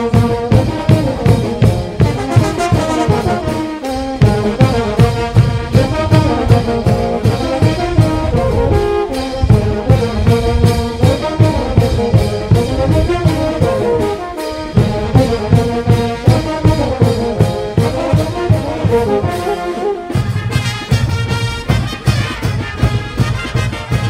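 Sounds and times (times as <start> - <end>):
brass band playing dance tune: 0.0 - 24.0.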